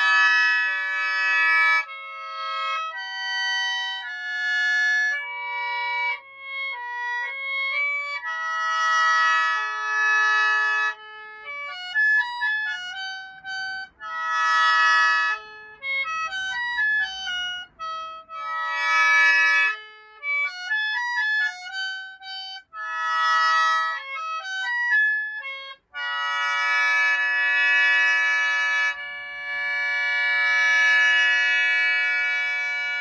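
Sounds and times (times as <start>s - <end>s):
mouth organ playing reedy notes and chords: 0.0s - 33.0s.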